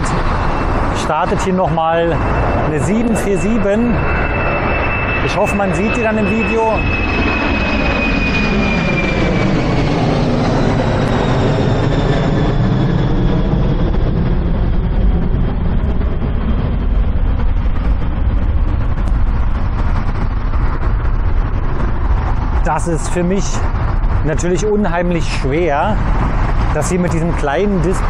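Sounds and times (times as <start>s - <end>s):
jet engines roaring at takeoff: 0.0s - 28.0s
motorway traffic noise: 0.0s - 28.0s.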